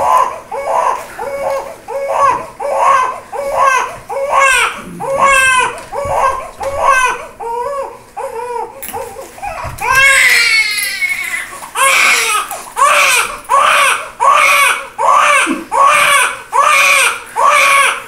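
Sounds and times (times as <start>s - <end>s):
baby crying hard: 0.0s - 18.0s.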